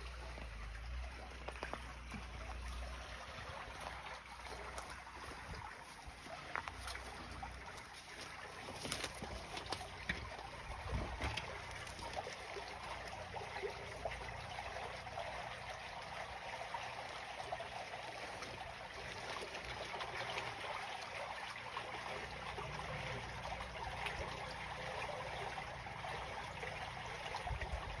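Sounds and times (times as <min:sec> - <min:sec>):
water trickling in a ditch: 0:00.0 - 0:28.0.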